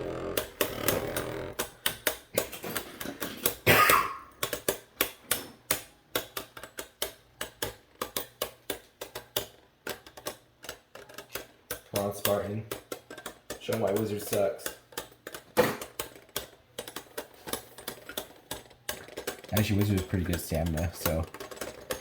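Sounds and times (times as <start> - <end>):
spinning tops clicking together: 4.2 - 22.0.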